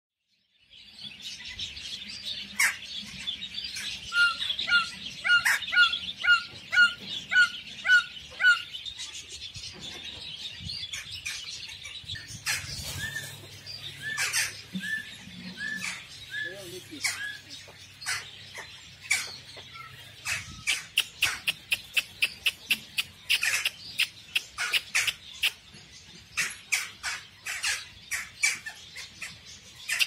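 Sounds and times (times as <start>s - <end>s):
many birds chirping: 0.2s - 30.0s
sharp loud bird calls: 1.4s - 30.0s.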